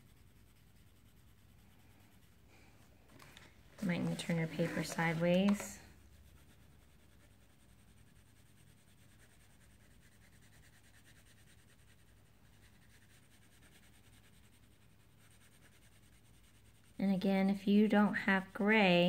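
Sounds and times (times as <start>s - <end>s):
crayon rubbing on paper: 0.0s - 2.7s, 3.8s - 17.0s.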